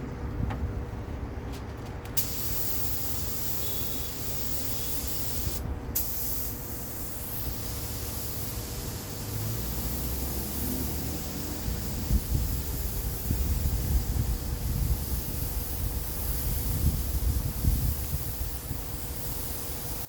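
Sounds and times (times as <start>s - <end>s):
compressed air hissing: 2.2s - 20.0s.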